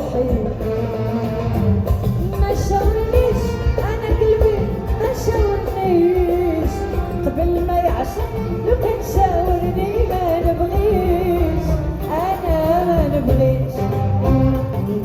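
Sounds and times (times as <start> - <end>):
live ensemble melody: 0.0 - 15.0.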